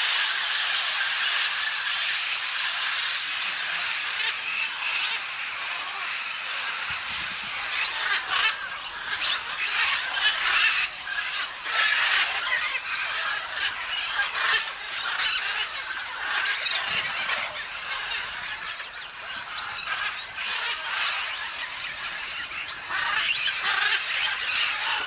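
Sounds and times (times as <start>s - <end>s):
parrots squawking: 0.0s - 25.0s.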